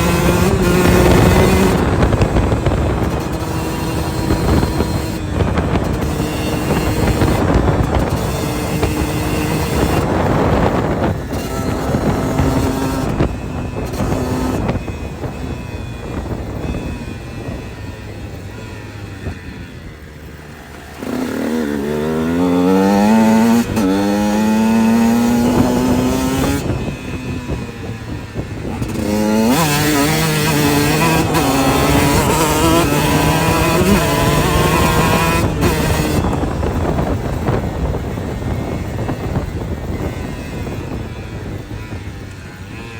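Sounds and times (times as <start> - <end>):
two-stroke engine revving hard: 0.0 - 42.9.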